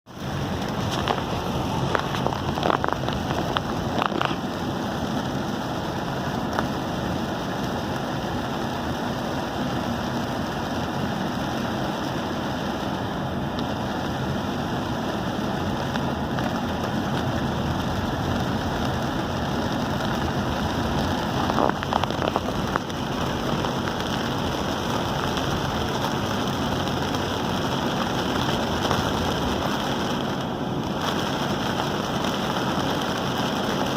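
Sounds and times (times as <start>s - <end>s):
heavy rain on a moving car: 0.1s - 33.9s
wet road hiss: 0.1s - 33.9s.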